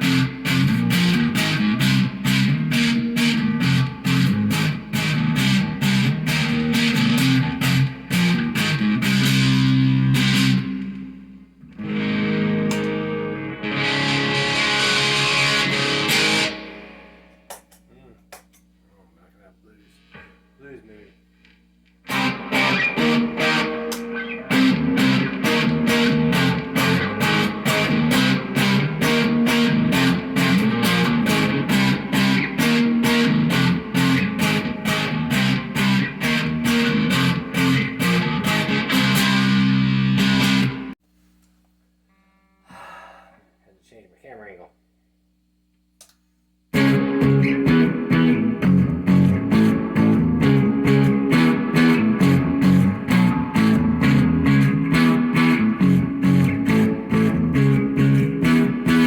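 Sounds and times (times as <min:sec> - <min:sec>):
distorted electric guitar chords: 0:00.0 - 0:17.5, 0:22.0 - 0:41.0, 0:46.7 - 0:59.0.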